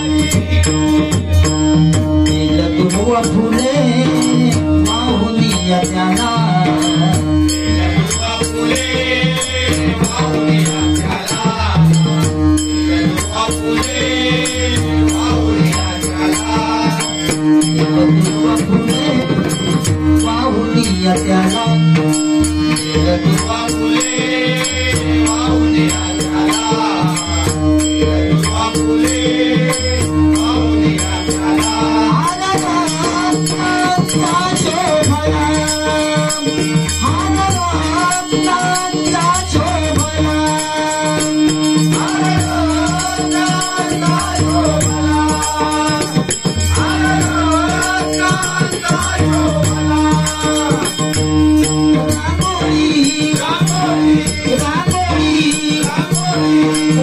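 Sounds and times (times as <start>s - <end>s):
voices singing devotional song: 0.0s - 57.0s.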